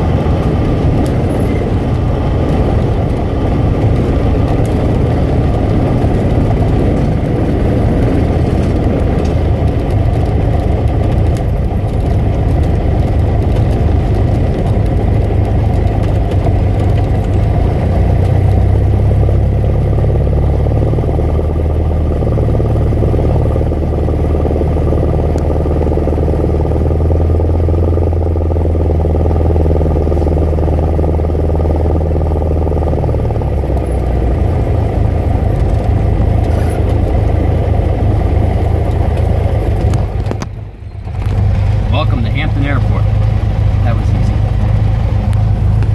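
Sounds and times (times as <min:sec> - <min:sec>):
aircraft engine droning: 0:00.0 - 0:45.9.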